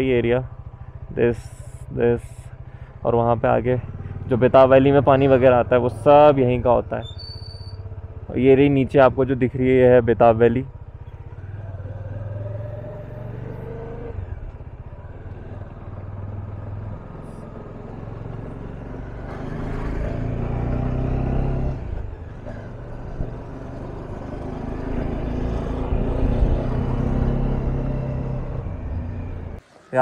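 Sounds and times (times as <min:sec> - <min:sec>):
motorcycle engine running: 0:00.0 - 0:29.6.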